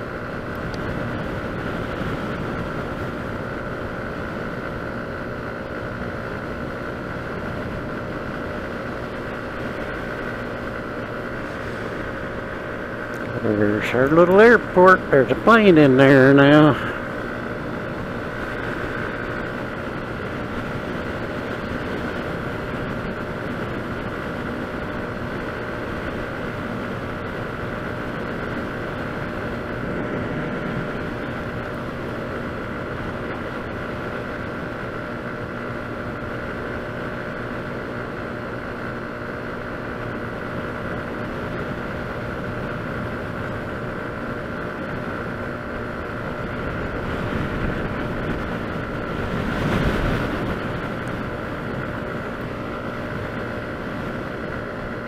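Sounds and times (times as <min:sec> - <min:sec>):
motor scooter engine drone: 0:00.0 - 0:55.0
wind and road noise: 0:00.0 - 0:55.0.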